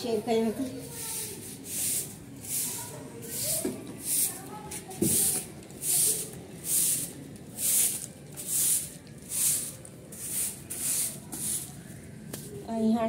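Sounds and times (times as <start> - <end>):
broom sweeping concrete floor: 0.8 - 12.6.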